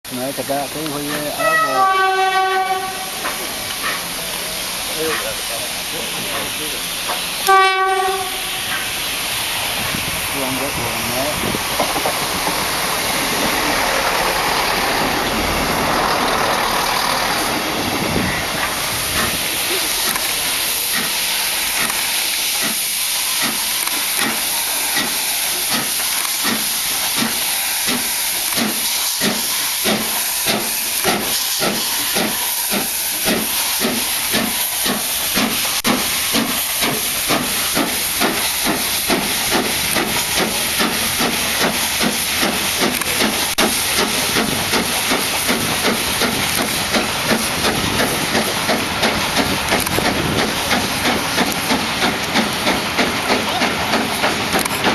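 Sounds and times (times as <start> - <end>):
steam hissing: 0.1 - 54.9
steam locomotive exhaust beat: 0.1 - 54.9.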